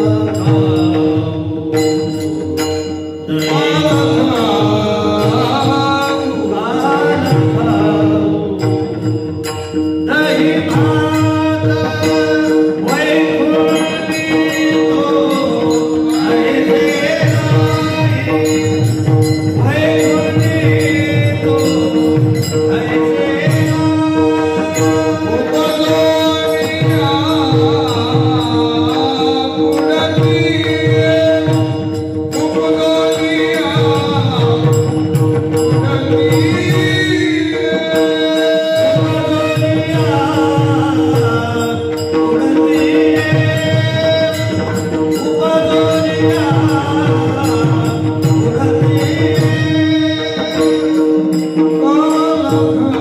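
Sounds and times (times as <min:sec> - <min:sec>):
hand cymbals clashing: 0:00.0 - 0:53.0
men singing devotional song: 0:00.0 - 0:53.0.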